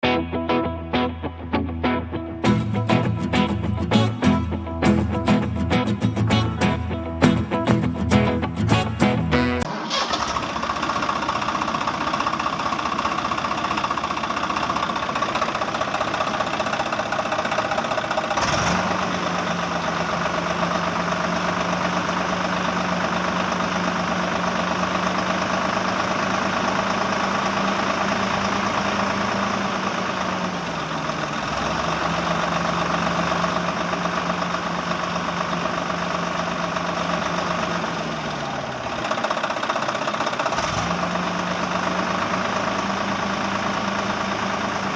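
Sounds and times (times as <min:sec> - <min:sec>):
engine running: 0:02.4 - 0:44.9.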